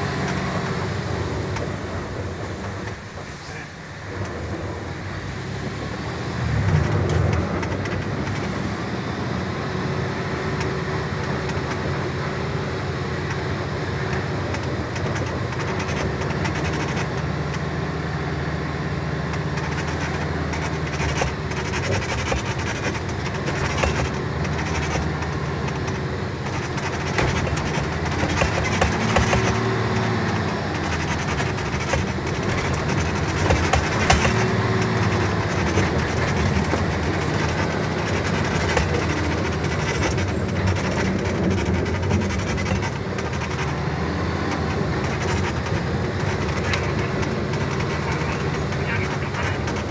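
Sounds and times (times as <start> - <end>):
truck engine drone: 0.0 - 49.9
rattles and knocks: 5.7 - 8.7, 10.5 - 18.3, 19.2 - 49.9.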